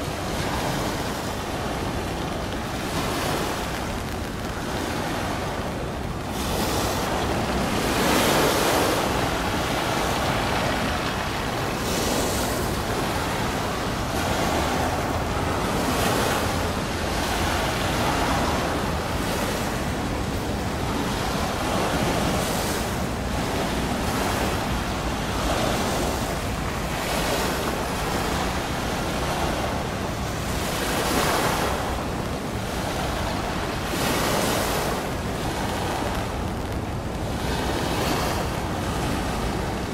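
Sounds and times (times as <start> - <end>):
waves washing: 0.0 - 39.9
wind rumbling on microphone: 0.0 - 39.9.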